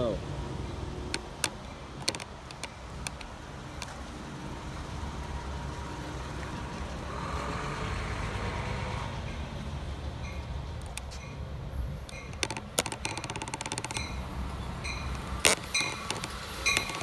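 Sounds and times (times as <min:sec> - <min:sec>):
train approaching with low rumble: 0:00.0 - 0:17.0.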